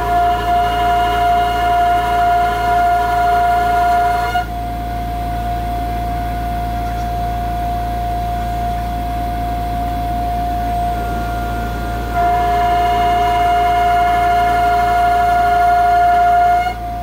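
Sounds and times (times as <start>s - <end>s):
cnc mill spindle whining: 0.0s - 17.0s.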